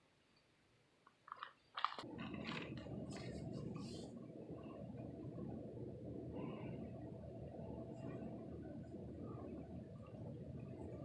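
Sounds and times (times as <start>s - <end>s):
faint steady hum: 0.0s - 11.0s
hurricane wind rumbling indoors: 2.0s - 11.0s.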